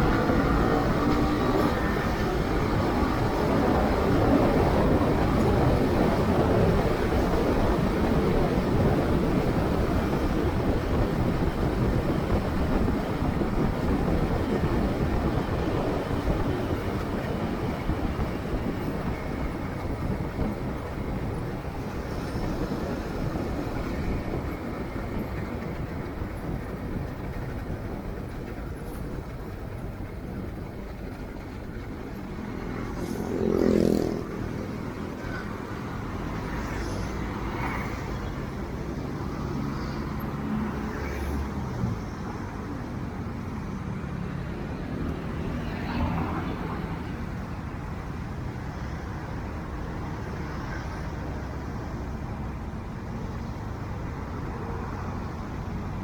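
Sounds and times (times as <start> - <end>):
motorcycle engine and road noise: 0.0 - 56.0
traffic: 0.0 - 56.0.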